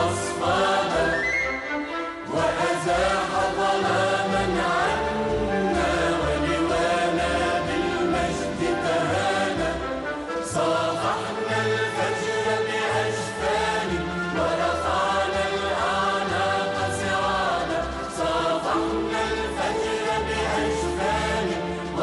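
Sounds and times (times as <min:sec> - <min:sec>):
choir singing with instruments: 0:00.0 - 0:22.0.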